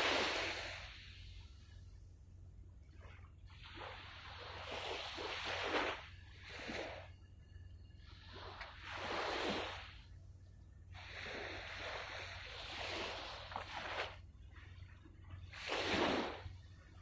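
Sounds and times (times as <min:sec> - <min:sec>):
small waves washing on shore: 0:00.0 - 0:01.6, 0:02.8 - 0:07.1, 0:08.2 - 0:10.1, 0:10.9 - 0:17.0
faint low hum: 0:00.0 - 0:17.0.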